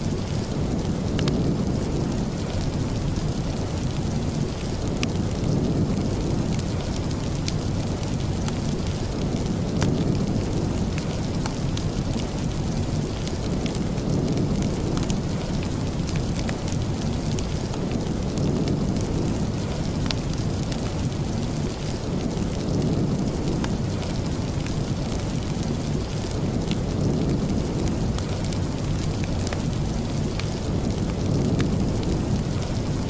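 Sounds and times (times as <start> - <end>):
steady rain: 0.0 - 33.0
wood fire crackles: 0.0 - 33.0.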